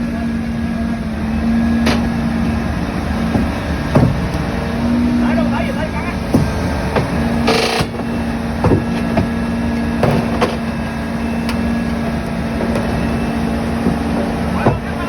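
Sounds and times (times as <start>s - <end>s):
heavy machinery engine humming: 0.0s - 15.0s.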